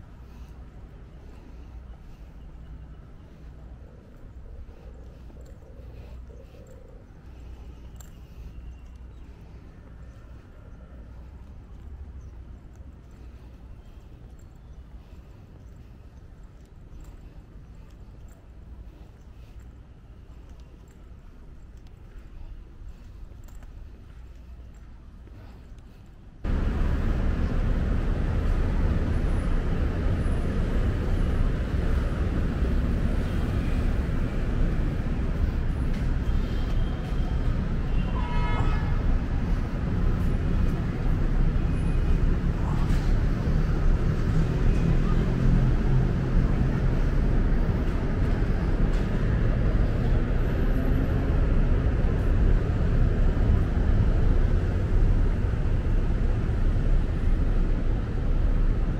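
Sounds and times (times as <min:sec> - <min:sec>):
city traffic rumble: 0:00.0 - 0:58.9.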